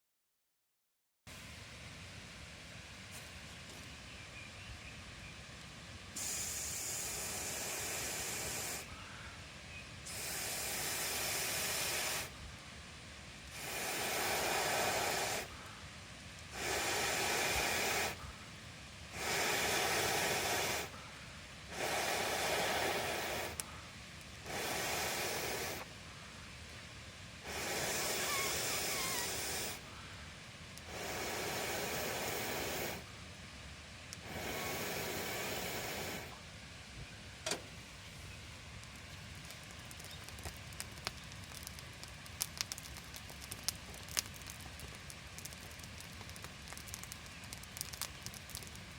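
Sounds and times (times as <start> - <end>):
air blown onto campfire: 5.4 - 48.9.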